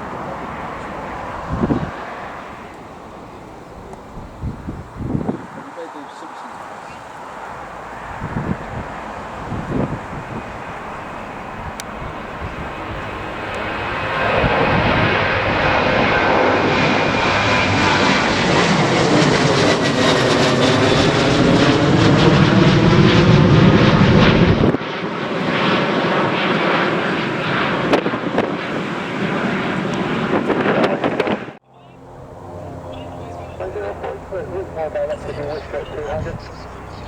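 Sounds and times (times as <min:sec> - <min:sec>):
airliner engines passing: 0:00.0 - 0:37.0.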